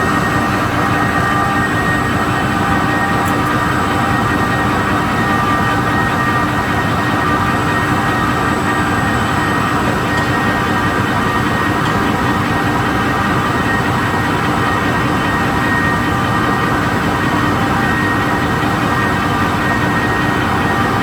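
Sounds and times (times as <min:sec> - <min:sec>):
machine whining tones: 0:00.0 - 0:21.0
production line machinery din: 0:00.0 - 0:21.0.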